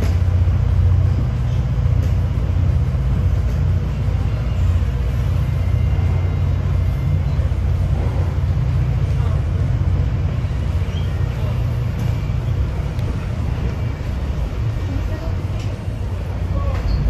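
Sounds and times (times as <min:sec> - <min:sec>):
train rumbling inside coach: 0:00.0 - 0:17.0.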